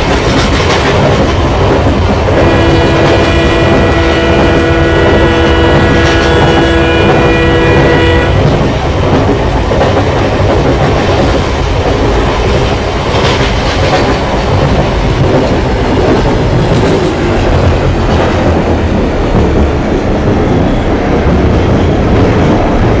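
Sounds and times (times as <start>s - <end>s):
train rolling past: 0.0s - 23.0s.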